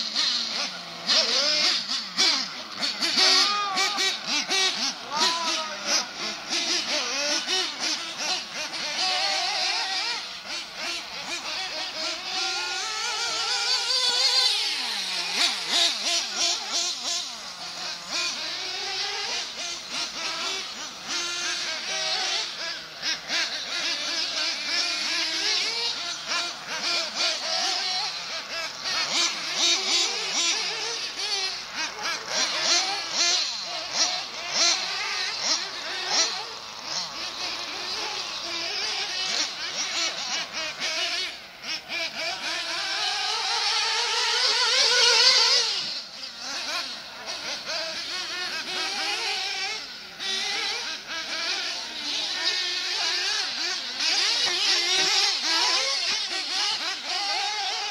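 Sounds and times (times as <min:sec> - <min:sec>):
small nitro engines whining: 0:00.0 - 0:57.9.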